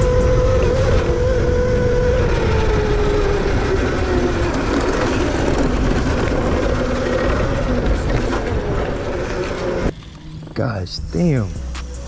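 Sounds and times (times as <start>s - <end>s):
electric motor whining: 0.0s - 12.0s
steady rushing rumble: 0.0s - 12.0s.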